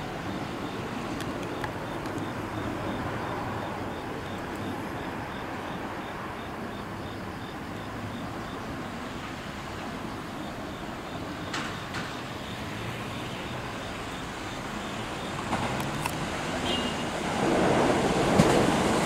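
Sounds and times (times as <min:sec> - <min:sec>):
distant train rail noise: 0:00.0 - 0:19.0.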